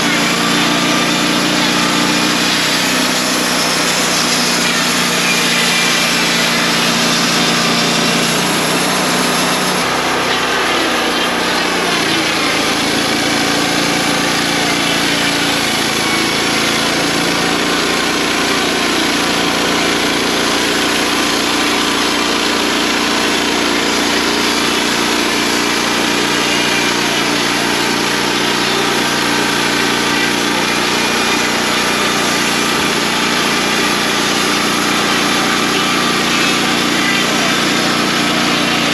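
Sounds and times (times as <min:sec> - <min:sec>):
band sawmill running: 0:00.0 - 0:38.9.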